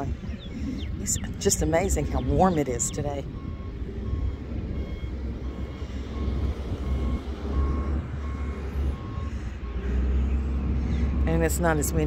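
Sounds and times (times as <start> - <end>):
low rumble: 0.0 - 12.0
vehicle backup alarm beeping: 0.2 - 12.0.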